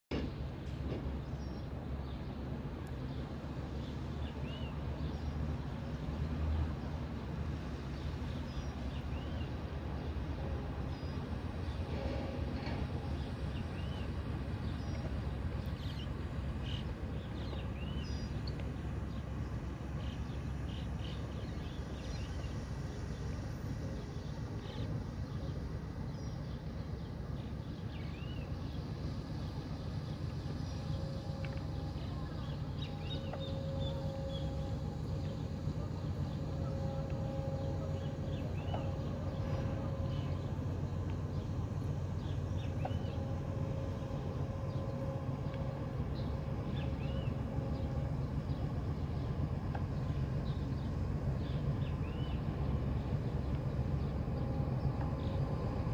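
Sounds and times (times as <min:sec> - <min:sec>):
ship low rumble: 0:00.1 - 0:55.9
steady hum tones: 0:06.8 - 0:55.9.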